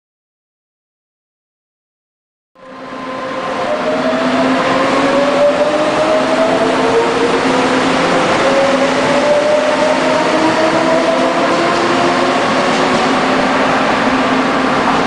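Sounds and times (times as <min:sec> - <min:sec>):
train hum and running noise: 0:02.6 - 0:15.0.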